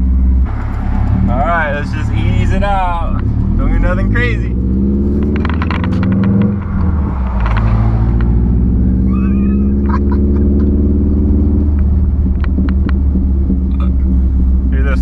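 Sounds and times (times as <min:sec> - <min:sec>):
exhaust crackles and pops: 0:00.0 - 0:15.0
loud car engine pulling away: 0:00.0 - 0:15.0.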